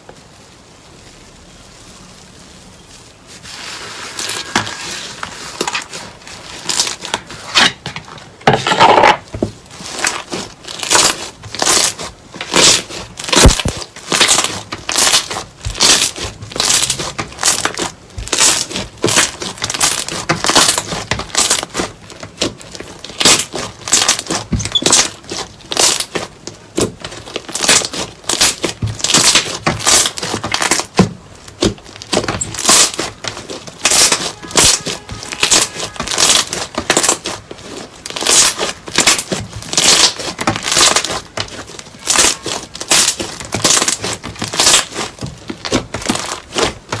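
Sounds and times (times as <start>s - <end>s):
slime squeezed crackling: 0.0s - 7.7s, 9.2s - 47.0s.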